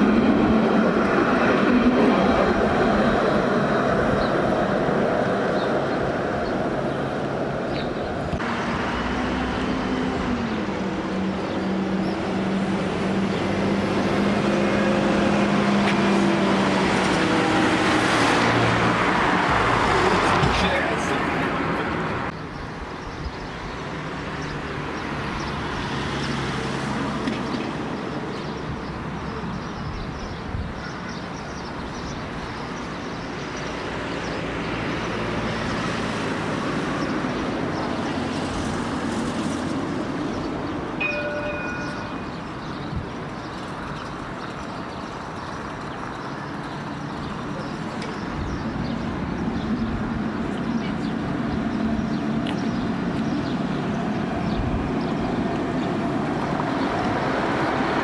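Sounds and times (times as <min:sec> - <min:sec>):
tram approaching: 0:00.0 - 0:58.0
vehicles passing: 0:00.0 - 0:58.0.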